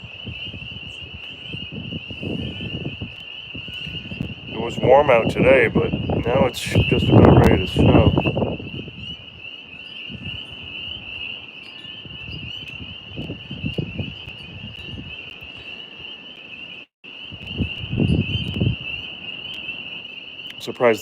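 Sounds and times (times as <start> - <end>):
wind buffeting microphone: 0.0 - 15.8, 17.3 - 19.3
tree frogs trilling: 0.0 - 21.0.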